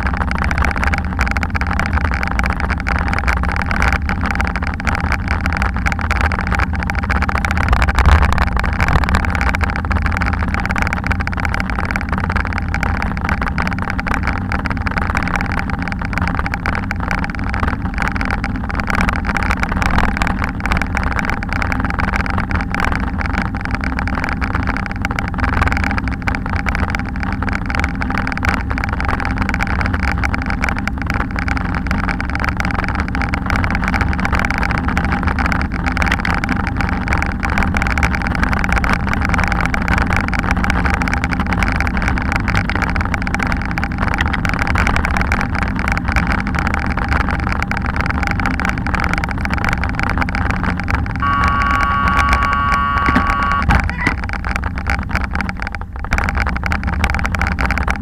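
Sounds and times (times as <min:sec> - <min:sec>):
bicycle tyres rumbling on paving: 0:00.0 - 0:58.0.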